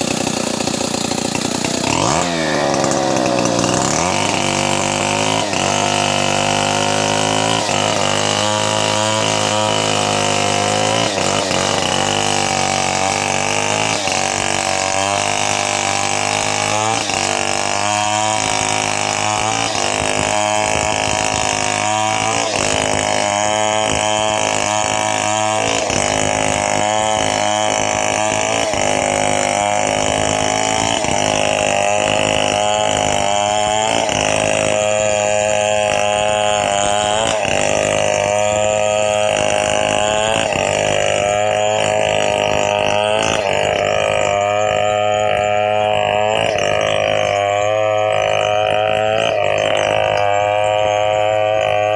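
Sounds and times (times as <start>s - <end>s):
two-stroke chainsaw engine running: 0.0s - 51.9s.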